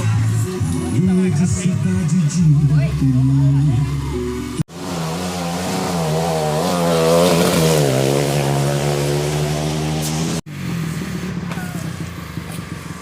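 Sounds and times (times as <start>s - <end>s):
motorcycle engine at high revs: 1.6s - 13.0s.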